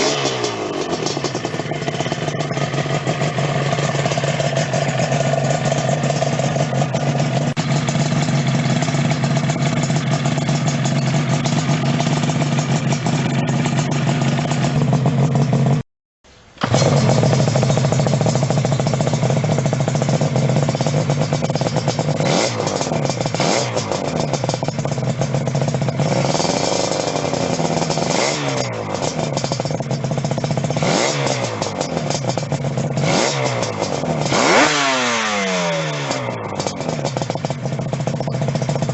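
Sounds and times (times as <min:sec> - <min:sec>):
motorcycle engine idling and revving: 0:00.0 - 0:15.9, 0:16.6 - 0:38.9.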